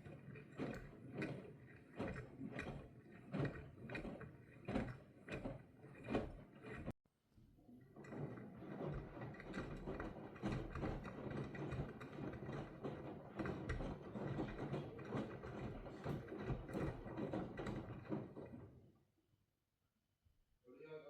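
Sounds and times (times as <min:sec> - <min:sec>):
washing machine clicking and rattling: 0:00.0 - 0:06.9, 0:07.9 - 0:18.8.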